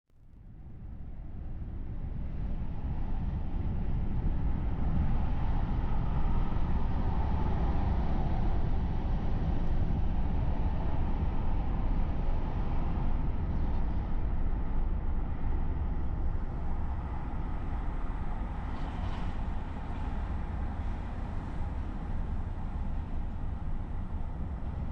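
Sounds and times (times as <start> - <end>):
car road and engine rumble: 0.5 - 24.9.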